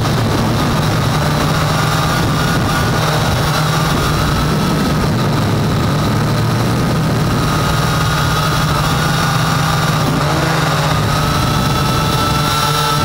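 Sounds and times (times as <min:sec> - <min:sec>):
quadcopter motors and propellers: 0:00.0 - 0:13.0.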